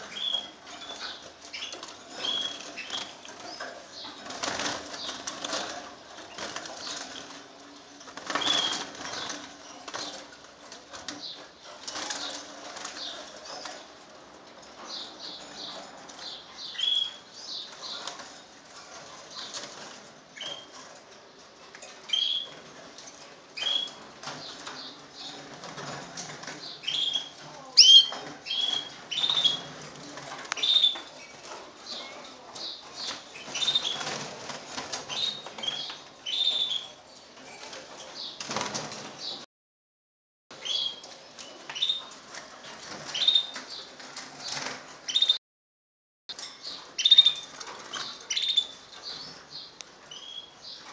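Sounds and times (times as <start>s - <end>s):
birds chirping: 0.0s - 20.9s, 21.8s - 22.9s, 23.5s - 39.4s, 40.5s - 42.2s, 43.0s - 45.4s, 46.3s - 50.9s.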